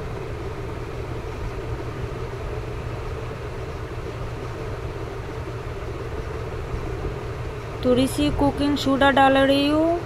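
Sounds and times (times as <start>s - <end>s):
machine hum and rumble: 0.0s - 10.0s.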